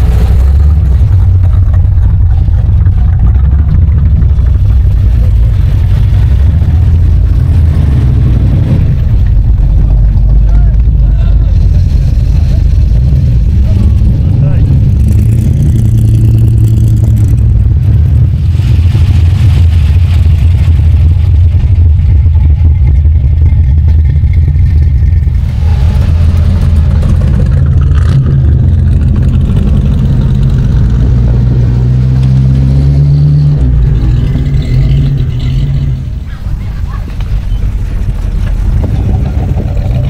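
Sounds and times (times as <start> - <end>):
loud car engines driving: 0.0 - 40.0.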